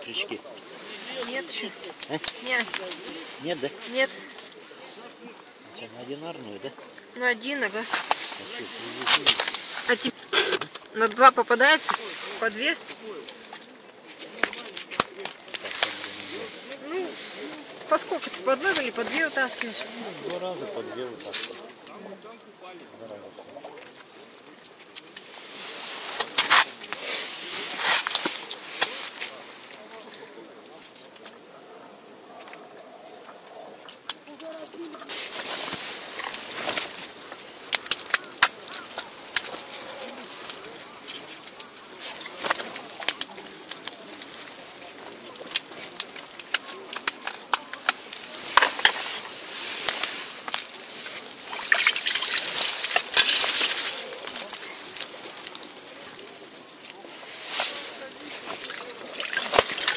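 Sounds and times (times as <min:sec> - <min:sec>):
water and slush splashing: 0:00.0 - 0:05.4, 0:06.6 - 0:21.8, 0:23.5 - 0:30.0, 0:33.6 - 0:59.9
rustling and scraping on ice: 0:00.0 - 0:22.4, 0:23.3 - 0:31.5, 0:32.3 - 0:59.9.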